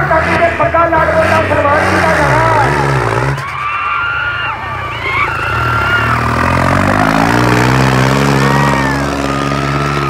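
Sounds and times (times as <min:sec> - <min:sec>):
tractor diesel engine revving: 0:00.0 - 0:10.0.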